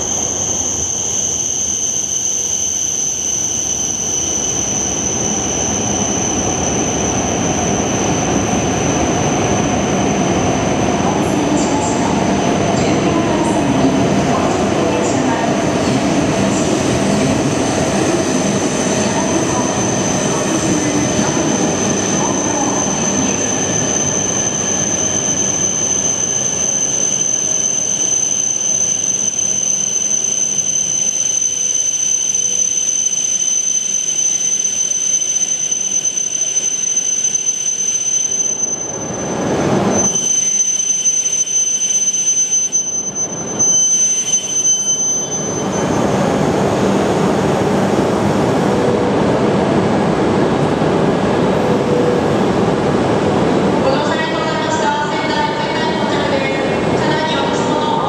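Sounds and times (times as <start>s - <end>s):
high-pitched train whine: 0.0s - 58.0s.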